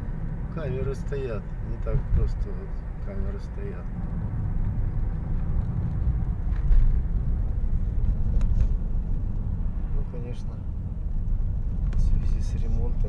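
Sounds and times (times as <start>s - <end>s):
car road rumble and engine: 0.0s - 13.0s.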